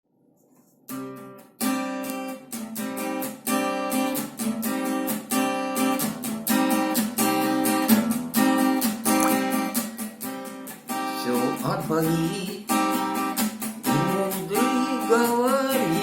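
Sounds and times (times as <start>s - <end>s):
acoustic guitar strumming: 0.9s - 16.0s.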